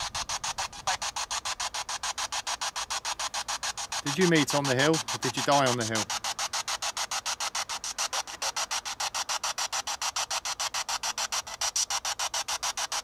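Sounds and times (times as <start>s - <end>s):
rapid bursts of radio static: 0.0s - 13.0s.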